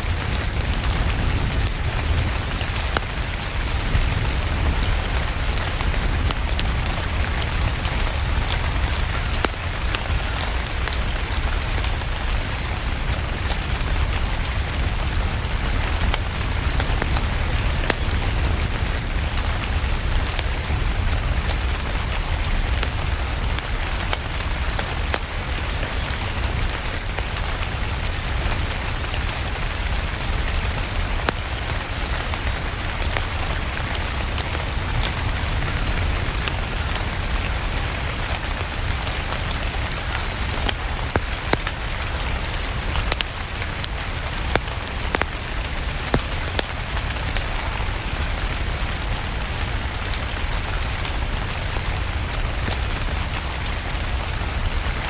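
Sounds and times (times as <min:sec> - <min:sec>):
steady rain: 0:00.0 - 0:55.0
wood fire crackles: 0:00.0 - 0:55.0.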